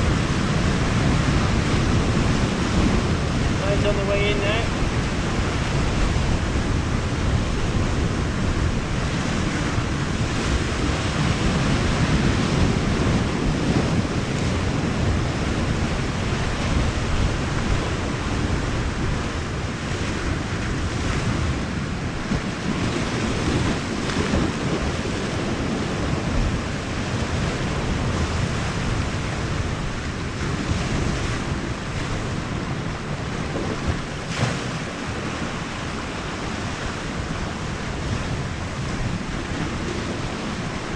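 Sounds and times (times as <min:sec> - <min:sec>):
sea waves breaking: 0:00.0 - 0:40.9
wind buffeting microphone: 0:00.0 - 0:40.9.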